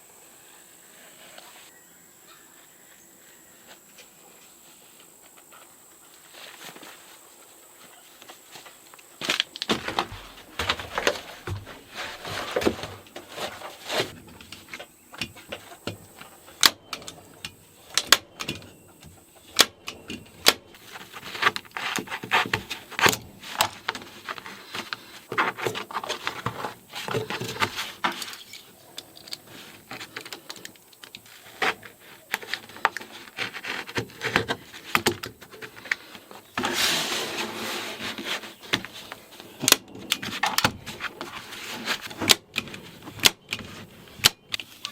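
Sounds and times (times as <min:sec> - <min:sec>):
vinyl sheet rustling and scraping: 0:03.6 - 0:30.5, 0:31.2 - 0:44.9.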